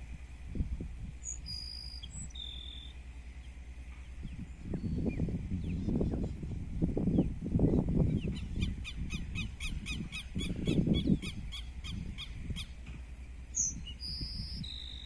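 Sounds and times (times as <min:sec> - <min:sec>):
low rumble on microphone: 0:00.0 - 0:15.0
bird singing repeated notes: 0:01.2 - 0:06.4, 0:07.1 - 0:12.9, 0:13.5 - 0:15.0.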